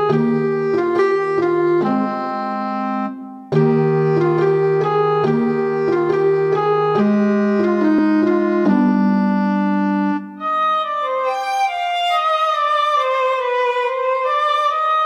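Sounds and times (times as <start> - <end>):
sustained keyboard chords: 0.0 - 15.0.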